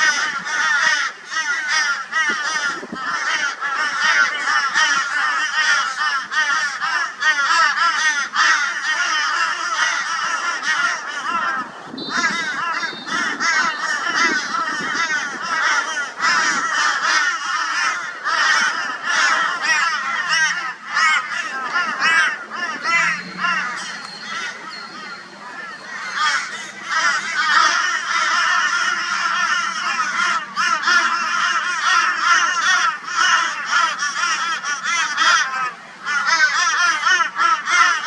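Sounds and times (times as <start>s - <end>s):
crows cawing harshly: 0.0s - 38.0s.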